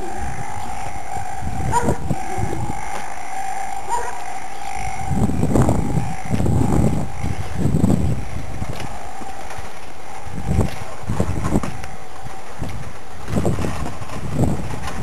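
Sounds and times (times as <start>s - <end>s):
faint steady whine: 0.0s - 15.0s
wind buffeting microphone: 0.0s - 15.0s.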